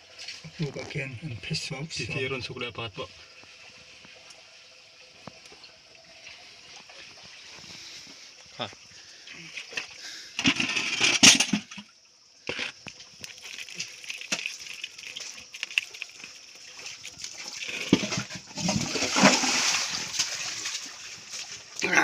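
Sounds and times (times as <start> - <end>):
water splashing and sloshing: 0.0 - 1.4, 2.2 - 22.0.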